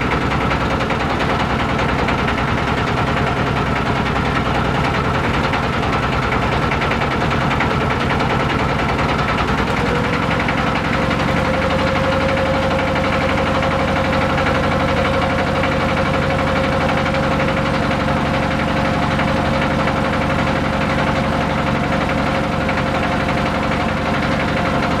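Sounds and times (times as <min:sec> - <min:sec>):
boat engine chugging: 0:00.0 - 0:25.0.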